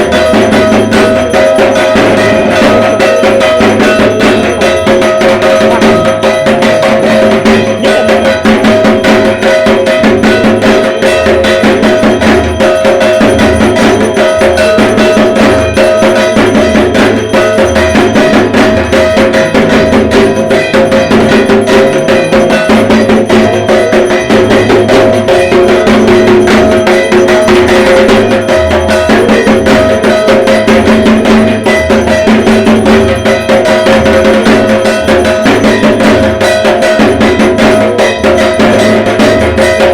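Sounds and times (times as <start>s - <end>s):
barrel drums beaten fast: 0.0s - 39.9s
metallic ringing: 0.0s - 39.9s.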